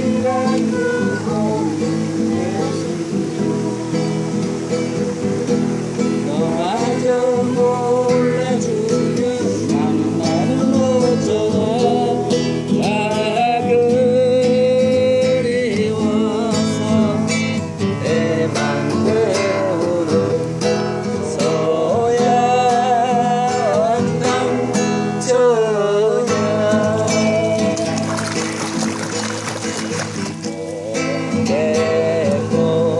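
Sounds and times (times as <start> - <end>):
person singing: 0.0 - 5.2, 6.2 - 32.9
strummed acoustic guitar: 0.0 - 32.9.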